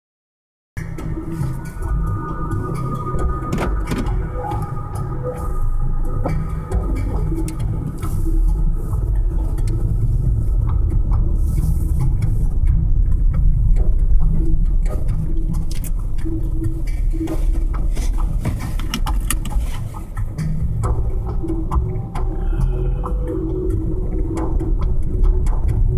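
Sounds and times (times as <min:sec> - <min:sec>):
car road and engine rumble: 0:00.8 - 0:25.9.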